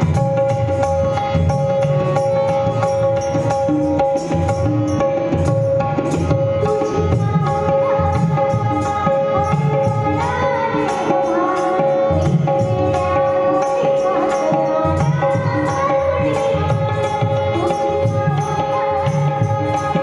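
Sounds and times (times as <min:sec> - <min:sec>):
tabla playing: 0:00.0 - 0:20.0.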